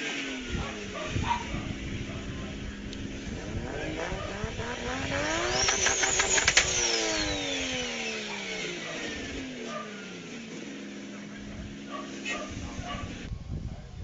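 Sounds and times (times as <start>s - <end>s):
car engine revving: 0.0s - 13.3s
sharp exhaust cracks: 0.4s - 13.2s.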